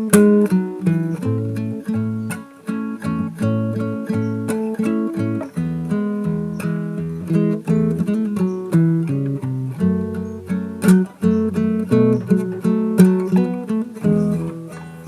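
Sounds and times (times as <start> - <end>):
acoustic guitar hymn melody: 0.0 - 15.0.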